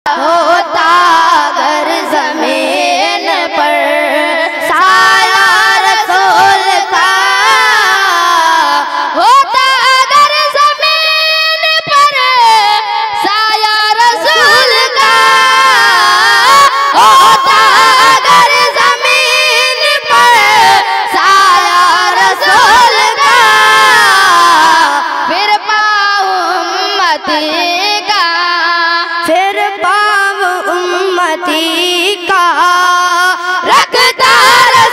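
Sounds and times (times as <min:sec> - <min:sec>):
boys singing devotional song: 0:00.1 - 0:34.9.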